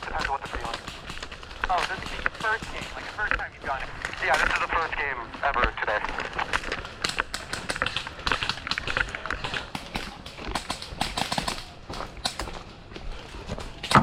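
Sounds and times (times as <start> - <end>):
footsteps crunching on dry ground: 0.0 - 10.6, 11.6 - 14.0.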